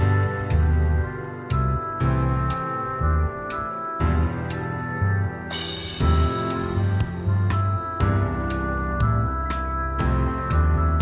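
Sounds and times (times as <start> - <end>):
background music with steady beat: 0.0 - 11.0
chiming bell-like tones: 0.0 - 11.0.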